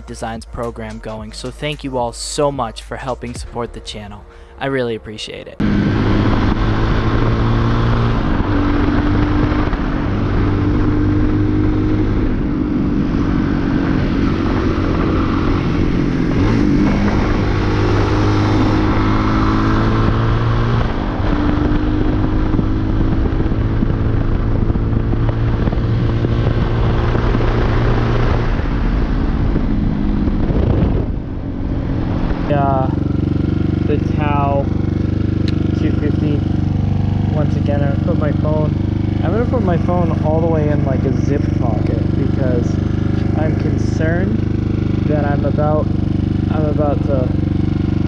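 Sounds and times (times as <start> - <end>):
dirt bike engine running: 5.6 - 48.0.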